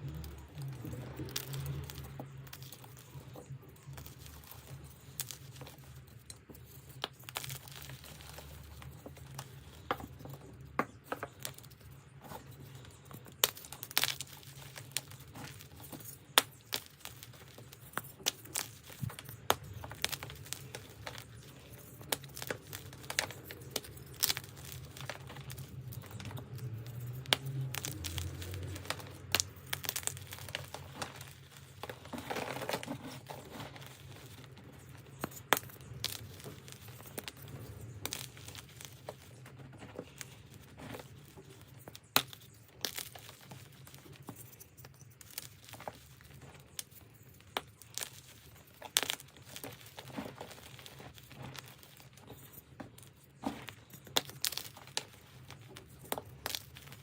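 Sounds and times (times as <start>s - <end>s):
chalk crunching and crackling: 0.0s - 57.0s.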